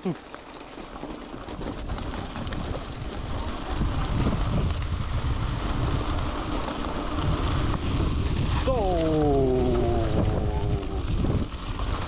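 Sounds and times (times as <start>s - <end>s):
bike tyres and frame rumbling: 0.0s - 12.0s
wind buffeting microphone: 1.3s - 12.0s.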